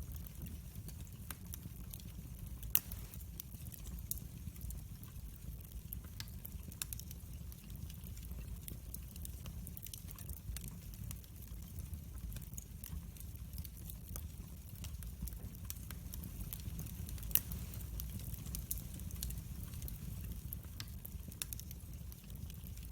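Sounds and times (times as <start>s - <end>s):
low rumble of flames: 0.0s - 22.9s
wood fire crackling and popping: 0.0s - 22.9s.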